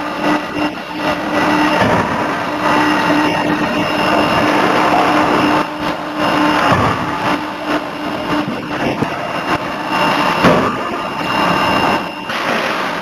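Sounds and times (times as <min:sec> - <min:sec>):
forging hammer machinery: 0:00.0 - 0:13.0
machine hum: 0:00.0 - 0:13.0.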